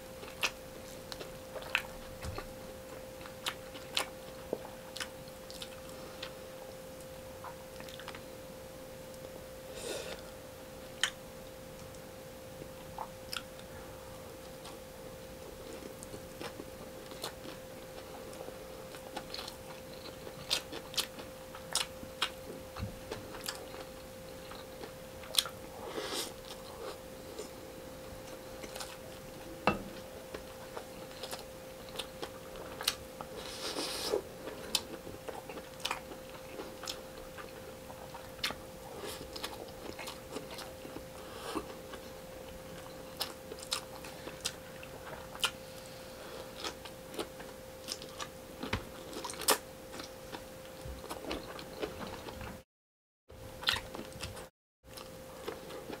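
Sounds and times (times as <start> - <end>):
faint hum: 0.0 - 52.6, 53.3 - 56.0
close-up chewing: 0.2 - 6.4, 7.4 - 8.3, 15.5 - 27.6, 28.2 - 52.6, 53.6 - 56.0.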